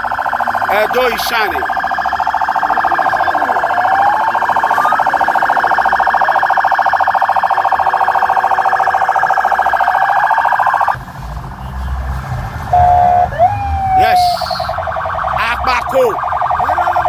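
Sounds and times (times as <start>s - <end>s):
electronic vehicle siren: 0.0s - 17.0s.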